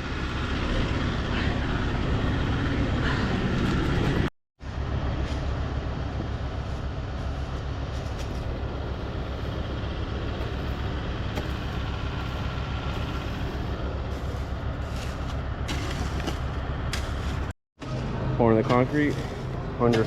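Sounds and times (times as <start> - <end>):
concrete pump droning: 0.0 - 20.0.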